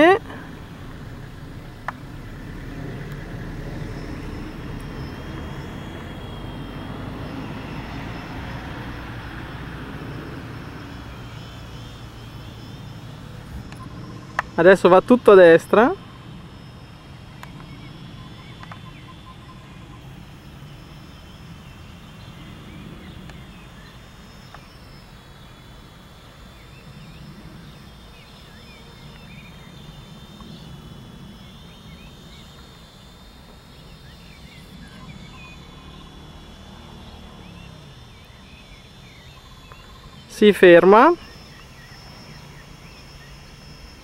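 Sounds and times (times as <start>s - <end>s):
distant quadcopter propellers humming: 0.0s - 44.0s
steady thin high tone: 0.0s - 44.0s.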